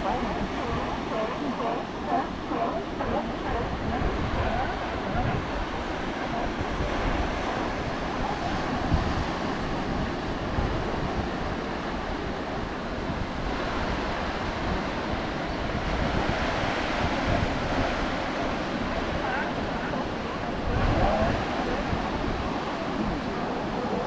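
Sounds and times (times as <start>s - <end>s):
ocean surf breaking on rocks: 0.0s - 24.0s
wind buffeting microphone: 0.0s - 24.0s.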